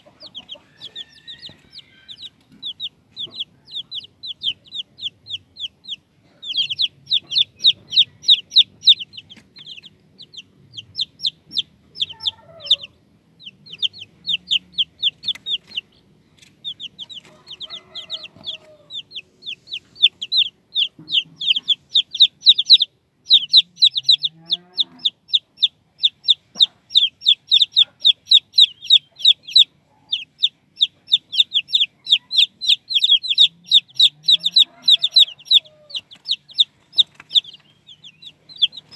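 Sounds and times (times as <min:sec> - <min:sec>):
chicks peeping: 0:00.0 - 0:38.9
lower bird calls: 0:00.0 - 0:38.9.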